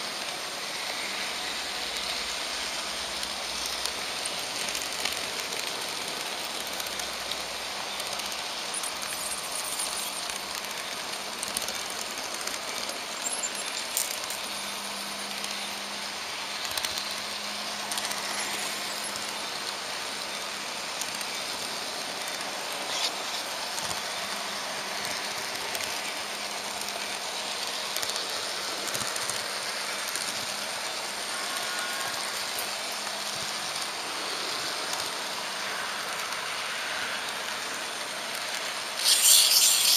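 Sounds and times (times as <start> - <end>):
model train wheels rattling on rails: 0.0 - 39.9.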